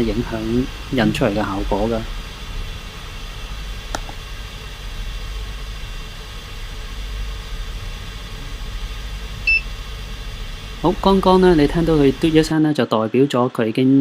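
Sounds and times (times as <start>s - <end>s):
printer humming: 0.0s - 12.5s.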